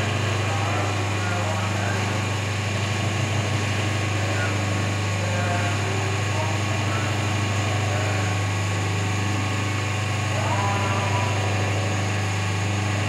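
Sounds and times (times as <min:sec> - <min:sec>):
hydraulic pump motor humming: 0:00.0 - 0:13.0.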